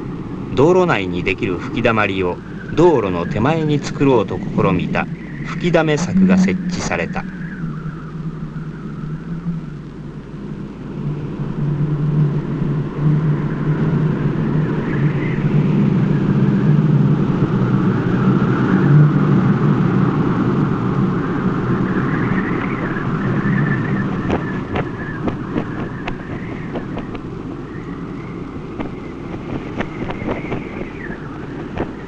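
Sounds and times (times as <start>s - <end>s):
strong wind whistling: 1.3s - 32.0s.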